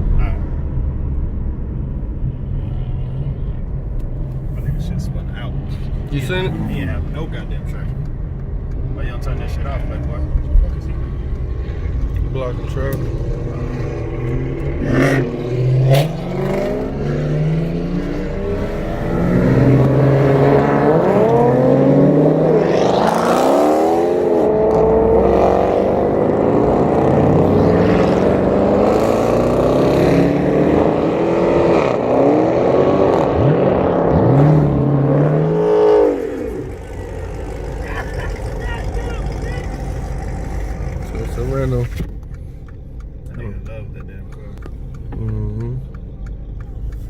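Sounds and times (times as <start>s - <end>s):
car engines revving hard: 0.0s - 47.0s.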